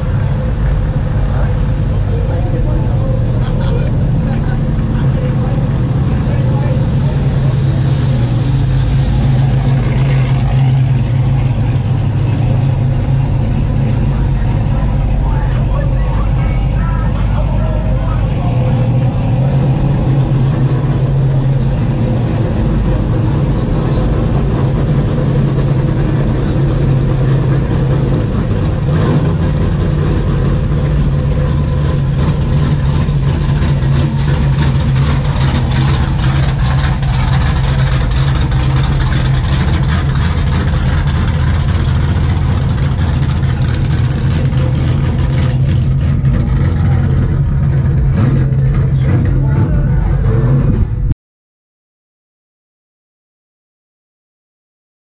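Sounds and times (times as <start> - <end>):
truck engines droning and revving: 0.0 - 51.2.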